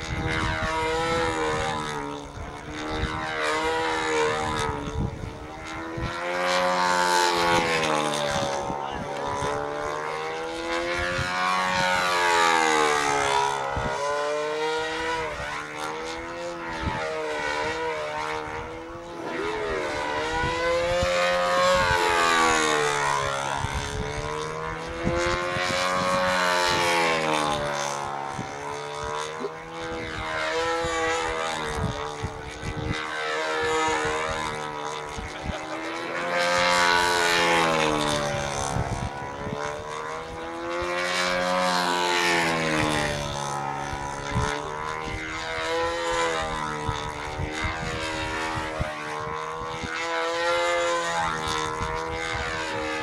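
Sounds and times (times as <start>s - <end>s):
model aeroplane engine: 0.0s - 53.0s.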